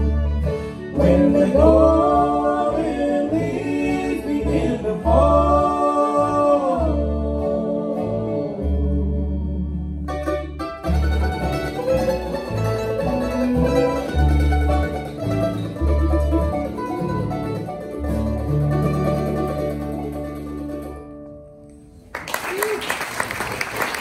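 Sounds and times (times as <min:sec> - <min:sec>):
upright bass notes: 0:00.0 - 0:21.6
picked mandolin and guitar: 0:00.0 - 0:22.1.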